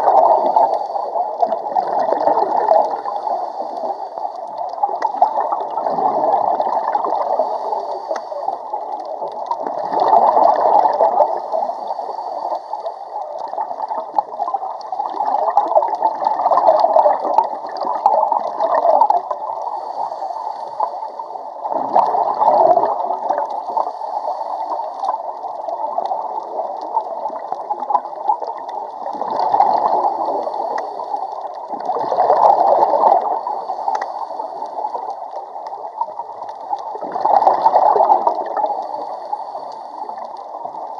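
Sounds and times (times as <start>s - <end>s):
underwater bubbling and gurgling: 0.0s - 40.9s.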